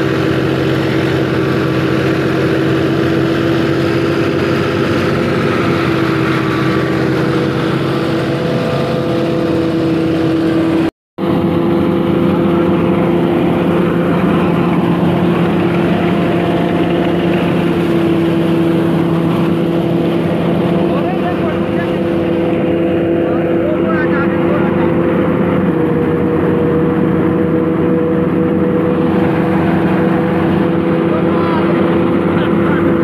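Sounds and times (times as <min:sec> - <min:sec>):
thresher humming: 0:00.0 - 0:33.0
tractor diesel engine running: 0:00.0 - 0:33.0.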